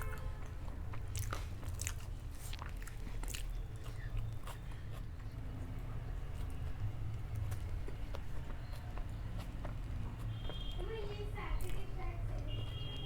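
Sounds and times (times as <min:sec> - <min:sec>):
chewing with sharp crunches: 0:00.0 - 0:13.0.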